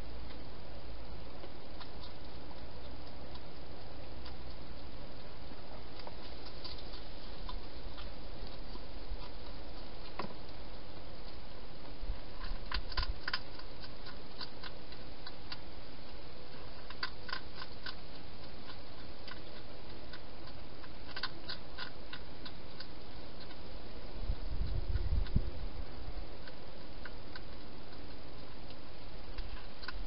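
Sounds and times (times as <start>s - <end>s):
hedgehog chewing clicks: 1.4s - 30.0s.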